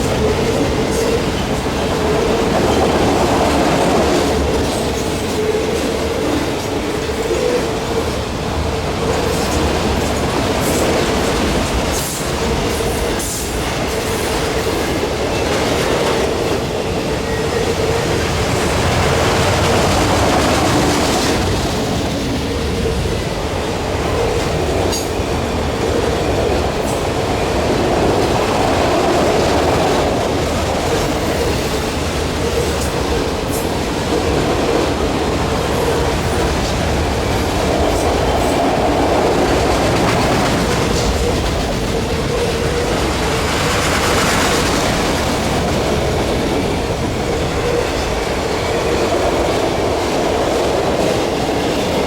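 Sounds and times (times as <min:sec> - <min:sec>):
freight train rumble: 0:00.0 - 0:52.0
train wheels clicking over rail joints: 0:00.0 - 0:52.0.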